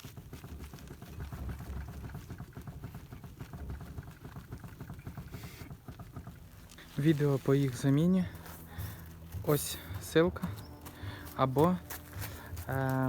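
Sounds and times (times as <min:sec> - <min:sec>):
rapid knocking of steering joints: 0:00.0 - 0:13.0.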